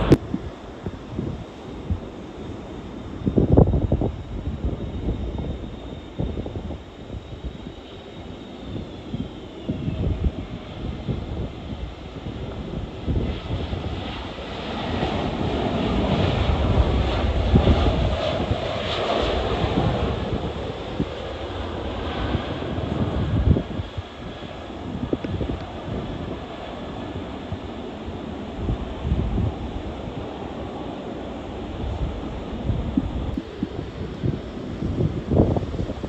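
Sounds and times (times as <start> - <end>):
jet engines rushing: 0.0 - 36.0
wind buffeting microphone: 0.0 - 36.0.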